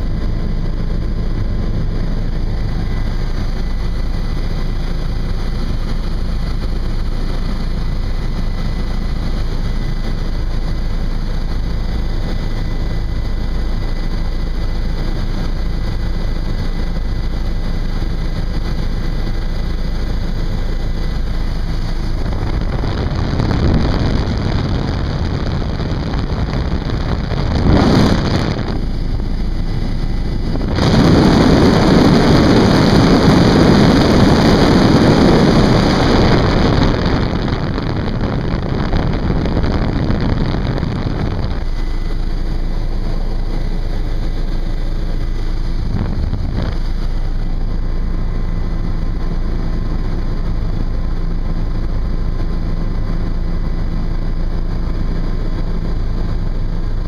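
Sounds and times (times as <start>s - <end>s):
helicopter engine and rotor drone: 0.0s - 57.0s
rushing wind: 0.0s - 57.0s.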